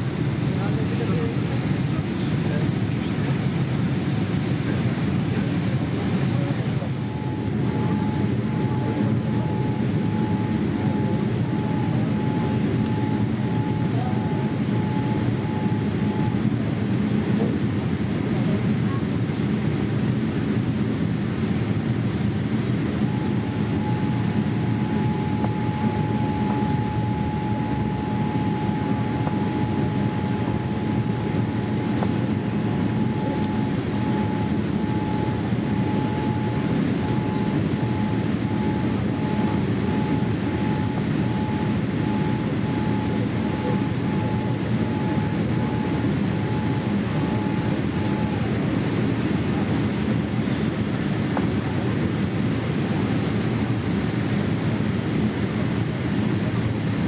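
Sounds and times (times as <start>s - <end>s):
airliner cabin roar: 0.0s - 57.0s.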